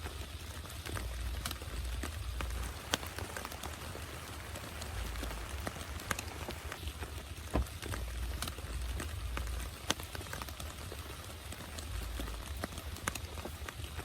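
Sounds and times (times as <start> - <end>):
rain falling: 0.0 - 14.0
raindrops ticking: 0.0 - 14.0.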